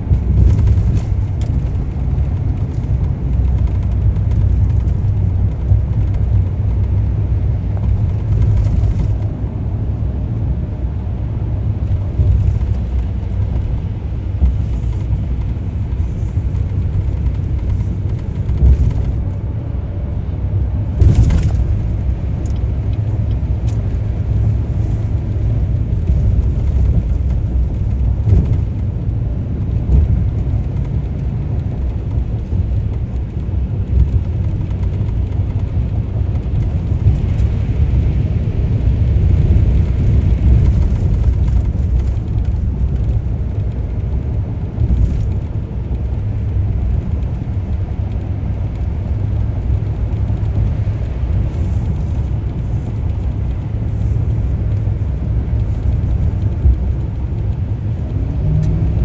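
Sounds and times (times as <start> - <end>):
car rumbling on the move: 0.0 - 59.0.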